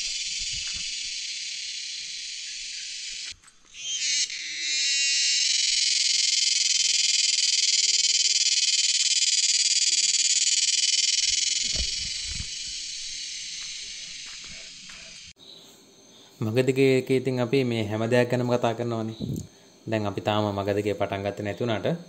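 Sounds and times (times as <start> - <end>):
cicada buzzing: 0.0 - 20.8.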